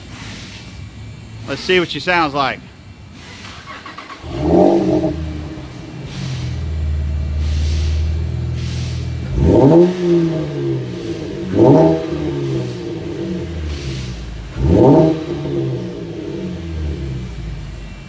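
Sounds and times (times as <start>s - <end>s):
car engine idling and revving: 0.0s - 2.1s, 2.7s - 18.0s.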